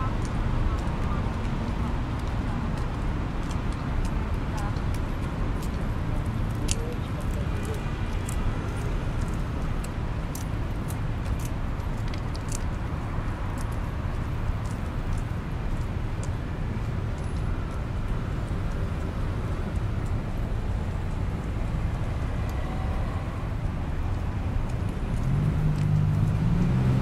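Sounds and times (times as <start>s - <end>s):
road traffic hum: 0.0s - 27.0s.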